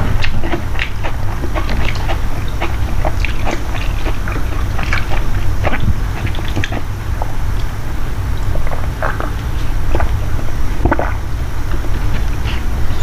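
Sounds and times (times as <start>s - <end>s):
low hum: 0.0s - 13.0s
mouth smacks and clicks: 0.0s - 13.0s
person chewing food: 0.0s - 13.0s.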